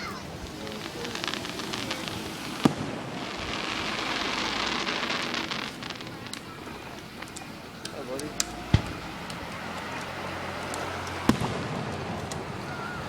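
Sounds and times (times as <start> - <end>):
firework bang: 0.0 - 13.0
firework crackling: 0.0 - 13.0.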